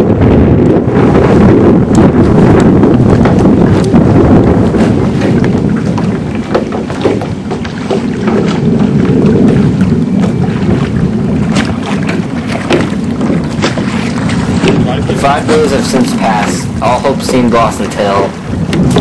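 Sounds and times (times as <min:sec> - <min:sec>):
crackles and splashes: 0:00.0 - 0:19.0
wind and water rumbling: 0:00.0 - 0:19.0.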